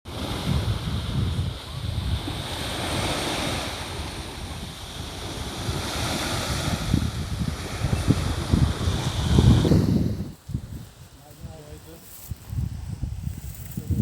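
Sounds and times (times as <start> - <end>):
sea waves washing on shore: 0.1 - 14.0
wind buffeting microphone: 0.1 - 14.0.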